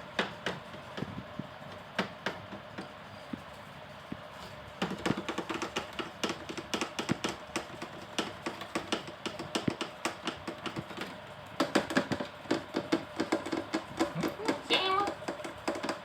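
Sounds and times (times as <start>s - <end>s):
light tapping and clicking: 0.0s - 3.5s, 4.1s - 16.0s.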